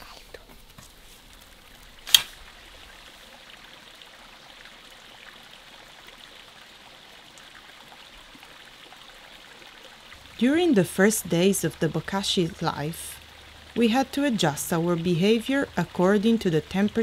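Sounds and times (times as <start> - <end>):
water drips: 0.0 - 17.0
water trickling: 0.0 - 17.0.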